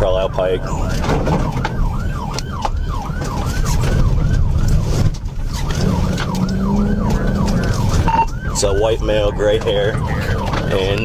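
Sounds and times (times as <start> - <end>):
car engine rumble: 0.0 - 11.0
police siren yelp: 0.0 - 11.0
road noise: 0.0 - 11.0.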